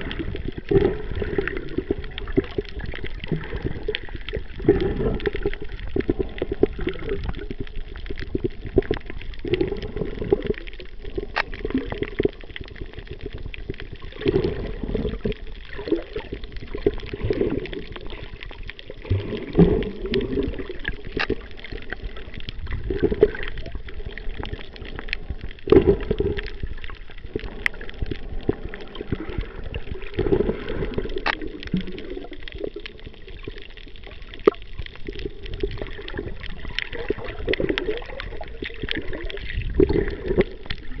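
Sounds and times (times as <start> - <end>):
water surging underwater: 0.0 - 41.0.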